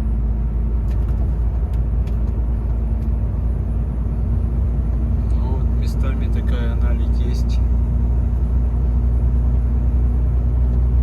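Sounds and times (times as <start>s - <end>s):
truck engine drone from cab: 0.0s - 11.0s.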